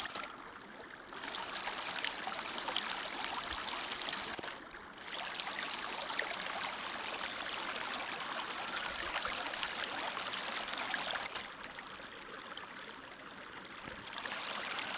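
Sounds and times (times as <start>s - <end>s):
small stream murmuring: 0.0s - 14.9s.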